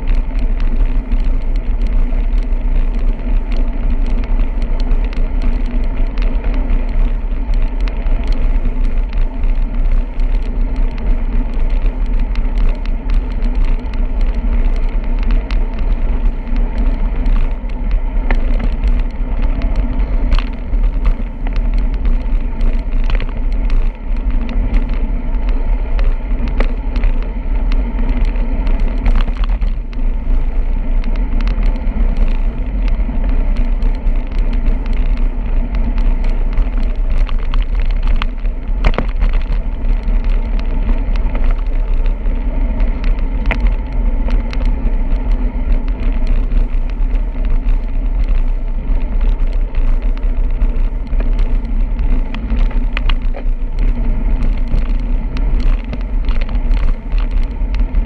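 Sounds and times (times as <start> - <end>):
road noise: 0.0 - 58.0
wind rushing on microphone: 0.0 - 58.0.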